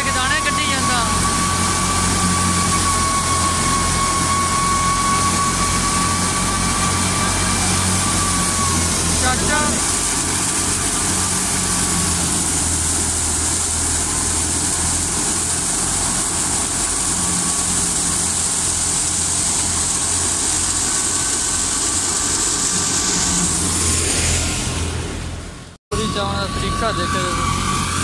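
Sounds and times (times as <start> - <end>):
engine drone: 0.0 - 28.0
grain rushing through thresher: 0.0 - 28.0.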